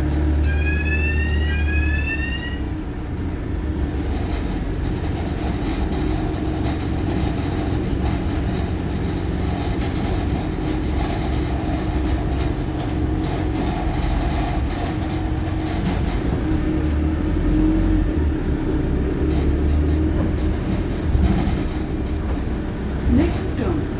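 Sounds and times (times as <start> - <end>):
bus diesel engine drone: 0.0 - 23.9
road noise: 0.0 - 23.9.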